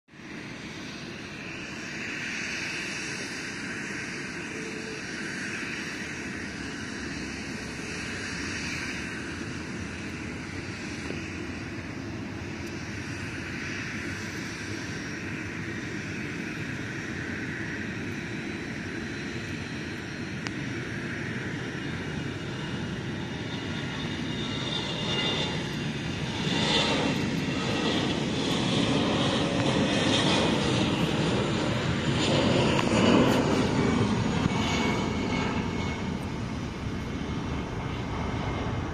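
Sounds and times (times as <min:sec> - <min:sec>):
jet engines roaring: 0:00.1 - 0:38.9.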